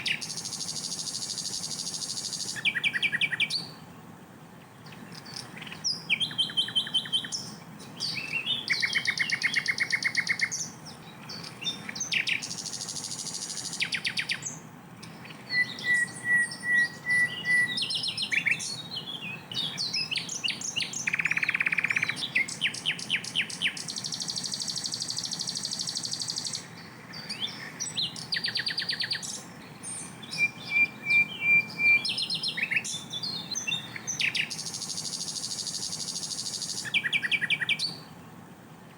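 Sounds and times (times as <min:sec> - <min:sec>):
bird singing rapid trills: 0:00.0 - 0:03.9, 0:04.6 - 0:38.2.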